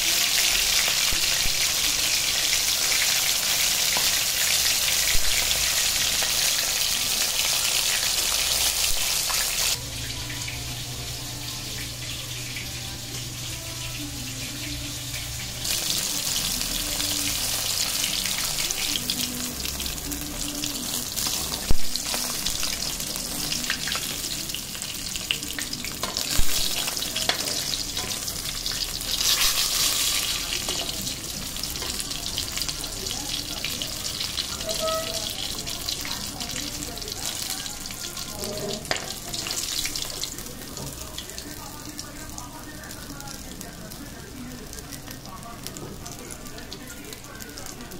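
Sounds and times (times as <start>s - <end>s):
fish sizzling in hot oil: 0.0s - 47.9s.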